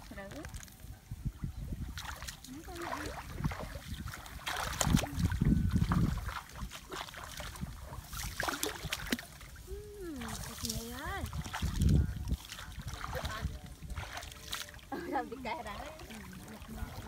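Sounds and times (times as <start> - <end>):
wind rumbling on microphone: 0.0 - 14.7, 15.4 - 17.0
muddy water sloshing and splashing: 0.0 - 17.0.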